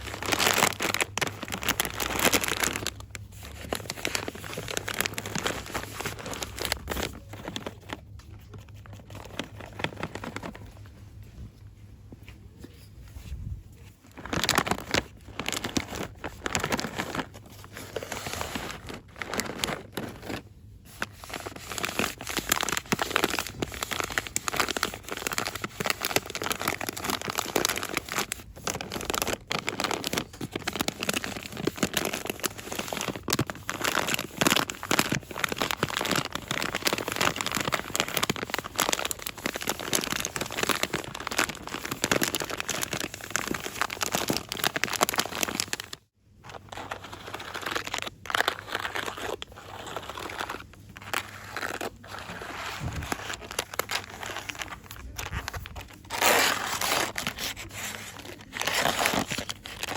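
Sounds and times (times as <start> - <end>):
packaging crinkling by hand: 0.0 - 11.4, 13.2 - 59.9.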